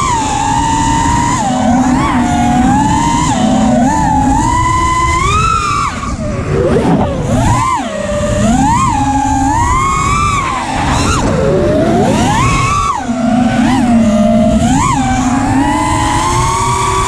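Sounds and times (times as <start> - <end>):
drone motors whining: 0.0 - 17.0
wind noise on microphone: 0.0 - 17.0.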